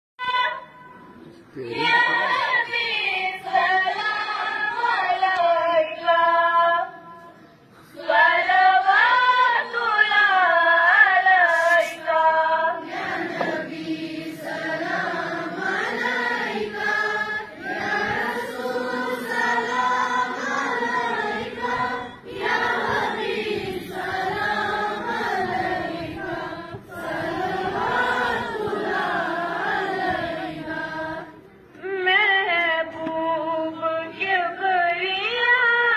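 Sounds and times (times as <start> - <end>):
group singing in unison: 1.7 - 7.0, 7.8 - 35.0.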